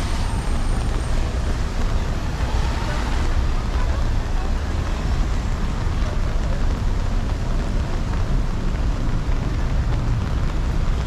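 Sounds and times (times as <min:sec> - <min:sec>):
passing traffic rumble: 0:00.0 - 0:11.0
rain hiss on wet roads: 0:00.0 - 0:11.0.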